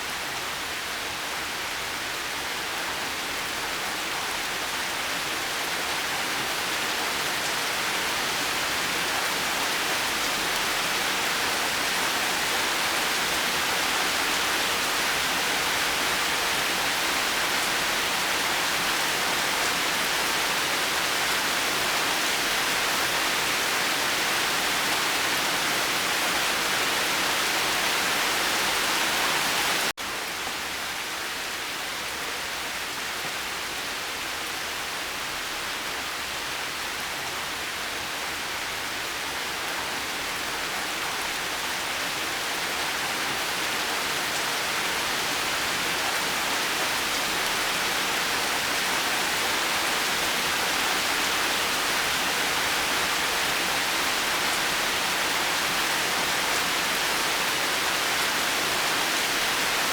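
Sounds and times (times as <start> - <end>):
rain falling: 0.1 - 59.9.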